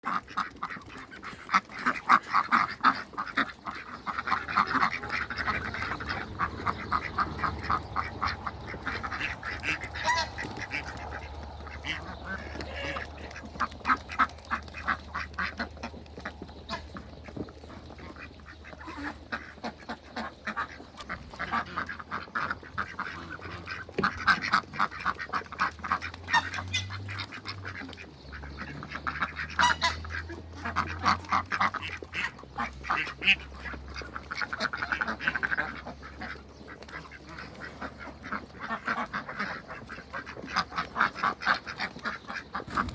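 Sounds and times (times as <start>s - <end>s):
ducks quacking: 0.0s - 42.9s.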